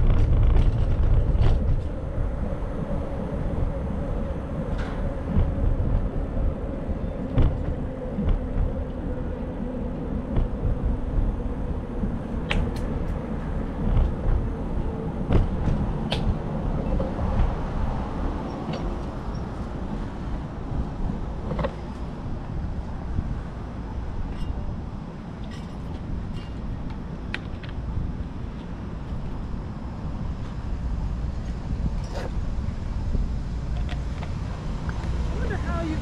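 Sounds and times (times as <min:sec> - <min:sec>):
wind and road noise rumble: 0:00.0 - 0:36.0.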